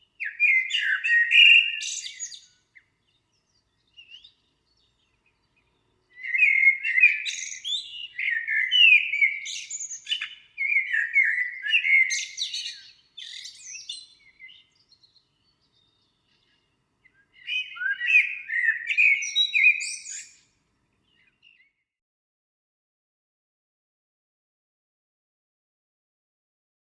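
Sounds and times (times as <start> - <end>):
songbird twittering and warbling: 0.0 - 21.8.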